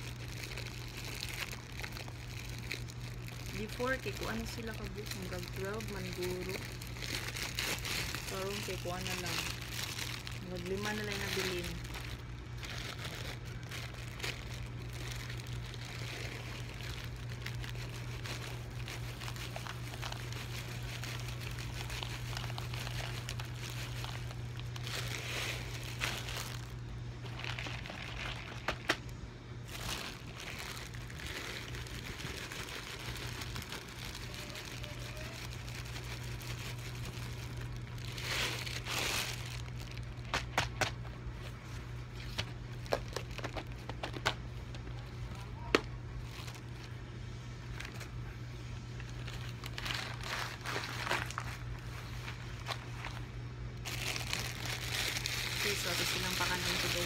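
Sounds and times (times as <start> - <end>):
plastic bag crinkling: 0.0 - 57.0
steady low hum: 0.0 - 57.0.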